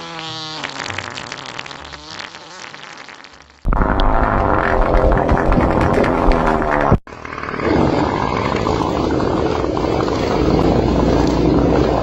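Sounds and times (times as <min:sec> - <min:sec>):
farting sound effect: 0:00.0 - 0:12.0.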